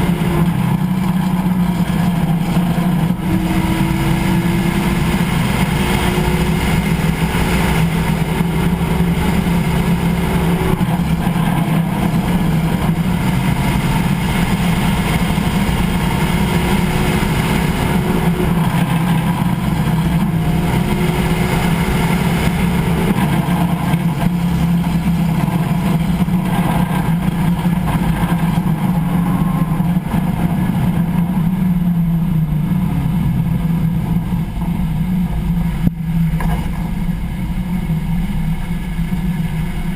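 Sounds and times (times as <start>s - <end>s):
faint whine: 0.0s - 39.9s
low driveline hum: 0.0s - 39.9s.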